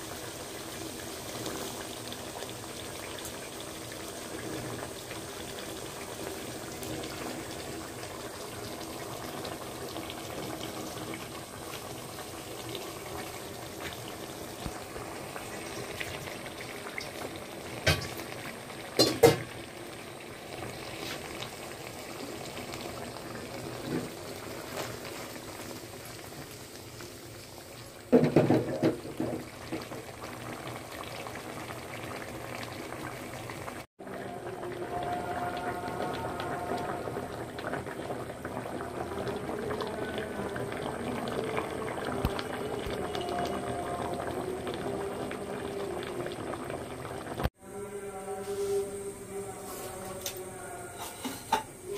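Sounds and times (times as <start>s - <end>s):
curry bubbling in a pot: 0.0s - 47.6s.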